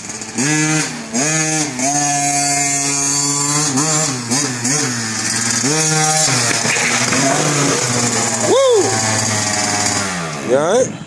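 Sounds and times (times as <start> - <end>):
two-stroke dirt bike revving: 0.0 - 11.0.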